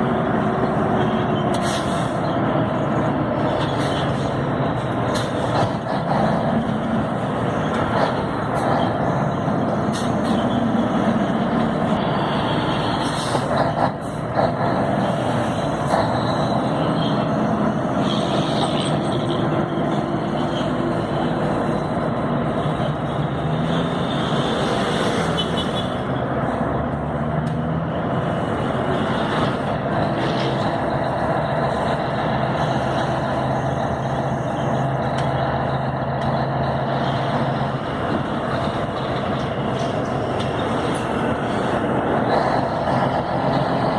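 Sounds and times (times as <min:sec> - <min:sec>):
truck diesel engine running: 0:00.0 - 0:25.2, 0:25.8 - 0:43.9
road noise: 0:00.0 - 0:43.9.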